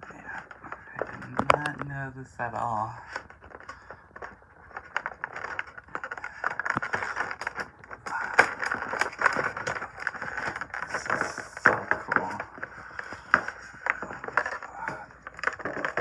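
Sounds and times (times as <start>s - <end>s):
packaging rustling and scraping: 0.0s - 16.0s.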